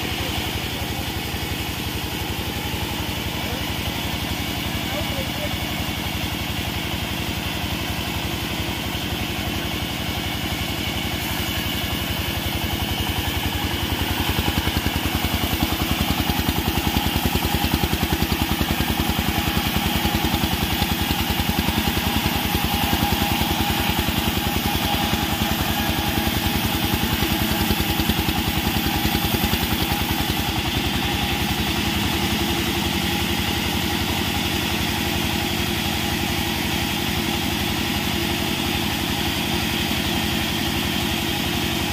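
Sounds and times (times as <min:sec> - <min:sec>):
sawmill engine pulsing: 0:00.0 - 0:41.9.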